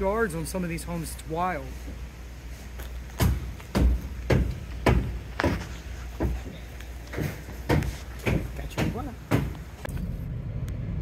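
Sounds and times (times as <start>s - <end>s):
low steady rumble: 0.0s - 11.0s
footsteps walking: 0.8s - 9.9s.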